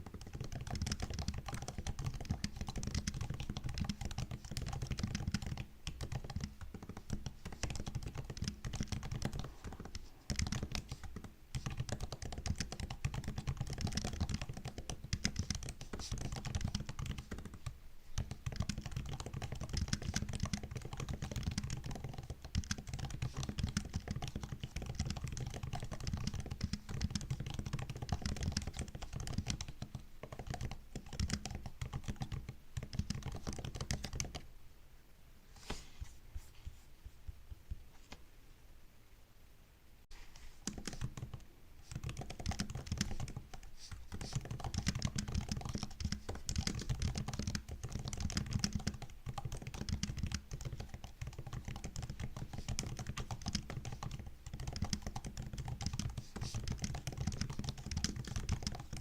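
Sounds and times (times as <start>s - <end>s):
laptop keyboard typing: 0.0s - 34.5s, 40.4s - 59.0s.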